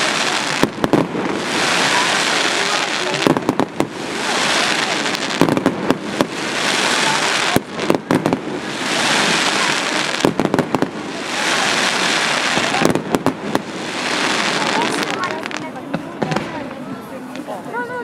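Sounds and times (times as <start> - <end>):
fireworks bangs: 0.0 - 17.5
fireworks hissing: 0.0 - 17.5.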